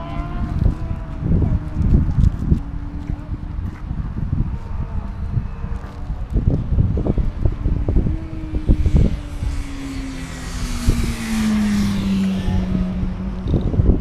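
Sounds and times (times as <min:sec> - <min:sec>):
passing vehicle engine drone: 0:00.0 - 0:14.0
wind buffeting microphone: 0:00.0 - 0:14.0.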